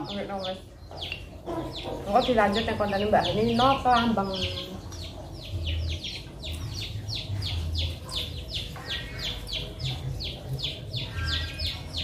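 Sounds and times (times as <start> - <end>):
bird chirping rapidly: 0.0 - 12.0.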